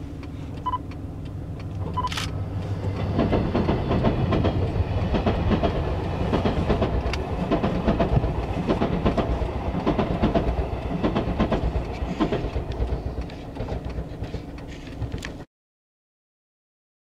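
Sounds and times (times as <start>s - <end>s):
train wheels clicking over rail joints: 1.6s - 15.4s.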